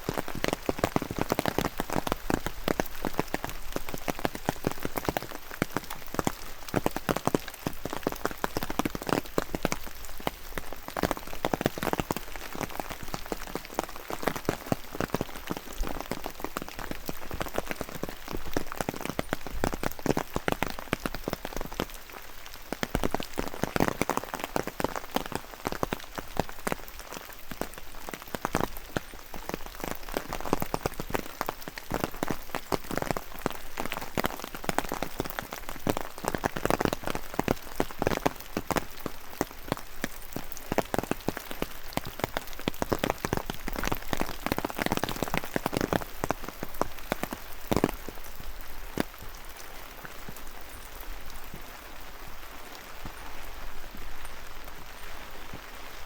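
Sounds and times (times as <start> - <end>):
close raindrops tapping: 0.0 - 56.0
steady rain: 0.0 - 56.0.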